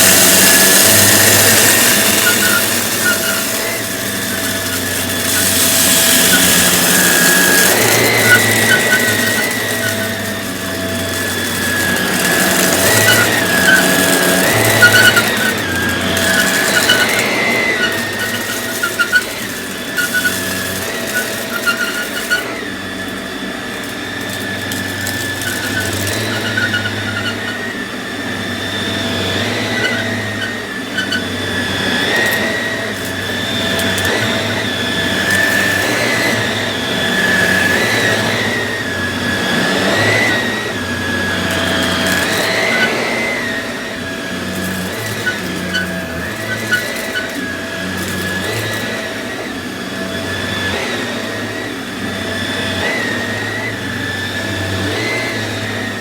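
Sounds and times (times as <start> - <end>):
debris clicking into vacuum: 0.0 - 49.4
upright vacuum cleaner running: 0.0 - 56.0.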